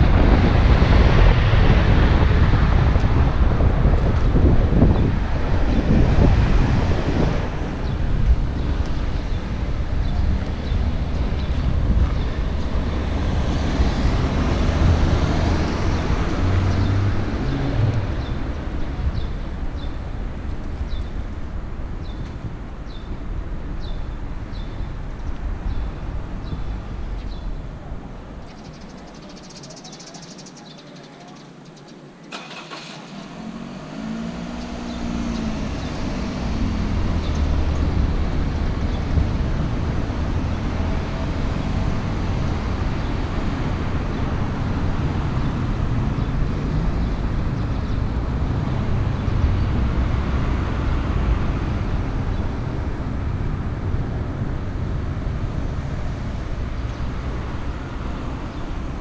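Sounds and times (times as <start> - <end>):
vehicle engine rumbling: 0.0 - 29.5, 32.3 - 59.0.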